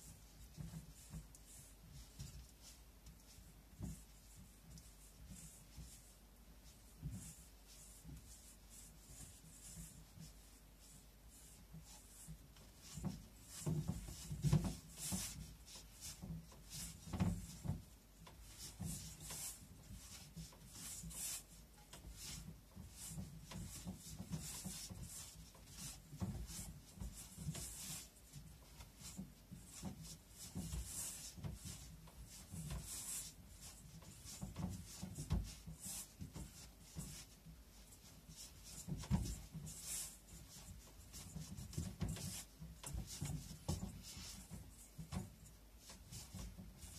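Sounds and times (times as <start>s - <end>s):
hand kneading dough in bowl: 0.0s - 46.9s.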